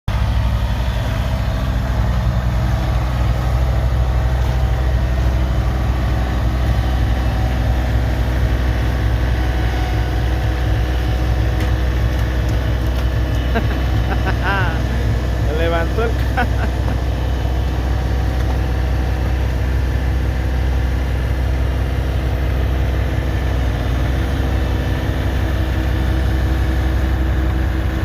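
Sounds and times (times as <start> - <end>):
tractor engine running: 0.1 - 28.0.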